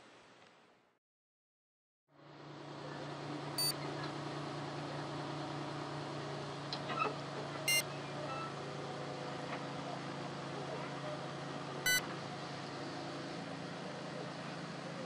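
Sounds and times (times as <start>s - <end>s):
locomotive engine idling: 2.2s - 15.0s.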